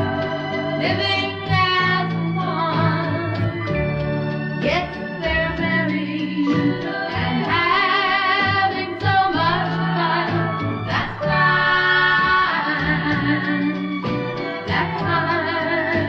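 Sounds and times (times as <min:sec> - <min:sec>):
band with guitar: 0:00.0 - 0:16.0
person singing with vibrato: 0:00.0 - 0:16.0.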